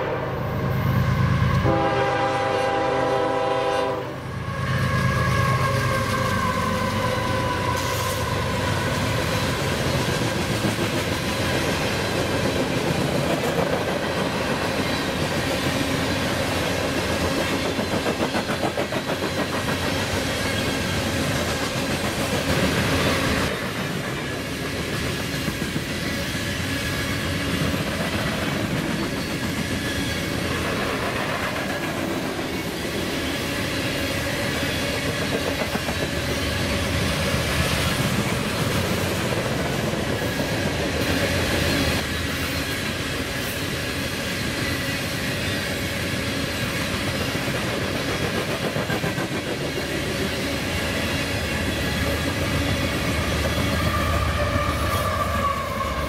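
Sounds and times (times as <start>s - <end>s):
train wheels clacking over rail joints: 8.9s - 43.8s, 44.6s - 55.0s.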